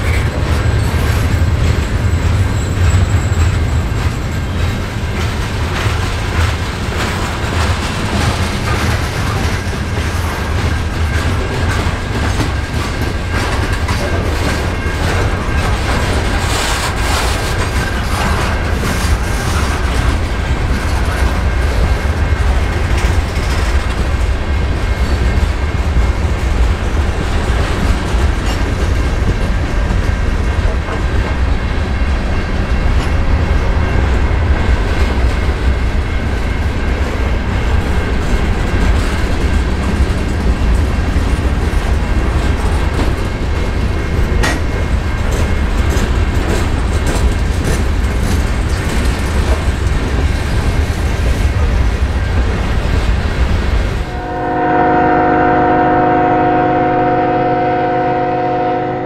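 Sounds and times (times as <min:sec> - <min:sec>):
freight train rolling past: 0:00.0 - 0:59.0
steel wheels rumbling on rails: 0:00.0 - 0:59.0.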